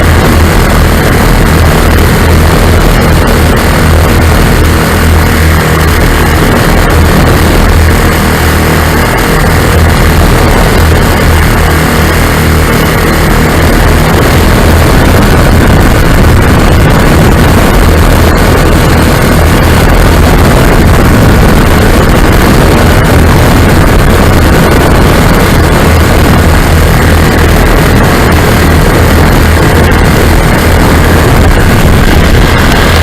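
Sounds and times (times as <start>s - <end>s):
aircraft engines and propellers: 0.0s - 33.0s
wind rush on microphone: 0.0s - 33.0s.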